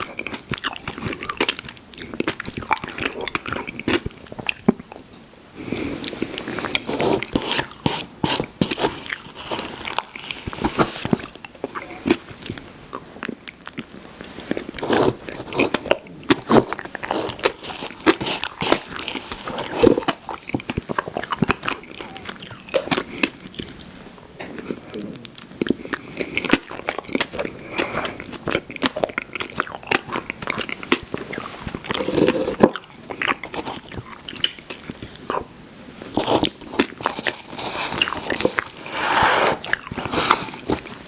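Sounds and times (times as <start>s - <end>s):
chewing ice cream: 0.0s - 41.0s.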